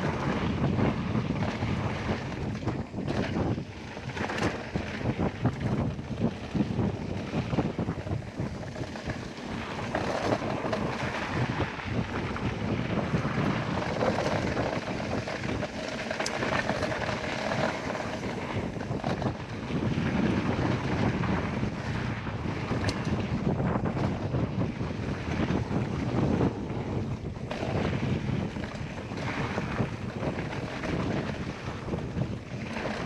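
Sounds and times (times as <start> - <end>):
bike tyre noise: 0.0 - 33.0
wind buffeting microphone: 0.0 - 33.0.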